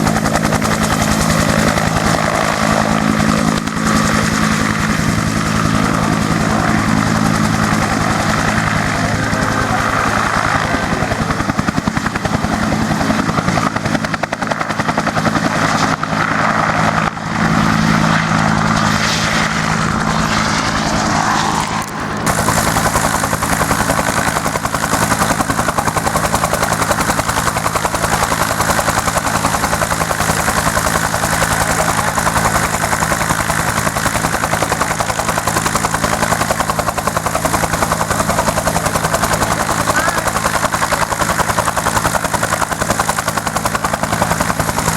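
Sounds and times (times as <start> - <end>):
helicopter rotor blades beating: 0.0 - 44.9
helicopter turbine tones: 0.0 - 44.9.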